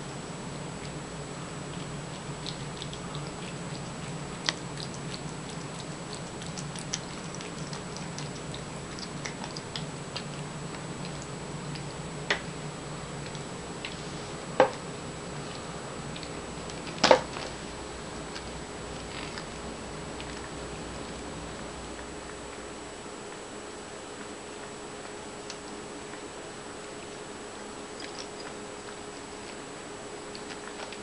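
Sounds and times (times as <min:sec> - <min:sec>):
steady low hum: 0:00.0 - 0:31.0
cat chewing: 0:00.5 - 0:22.6, 0:27.9 - 0:31.0.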